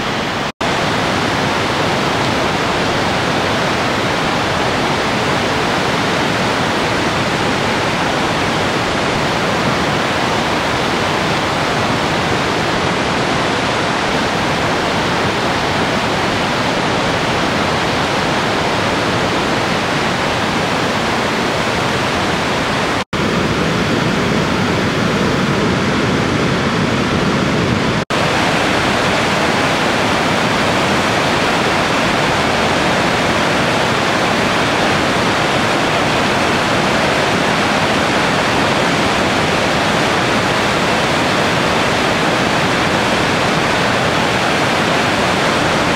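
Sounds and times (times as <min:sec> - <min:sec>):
rush of fast white water: 0:00.0 - 0:45.9.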